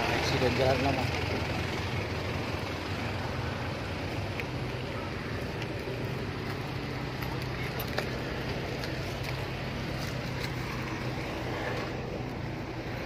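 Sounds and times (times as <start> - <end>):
outdoor noise: 0.0 - 13.0
vehicle engines idling: 0.0 - 13.0.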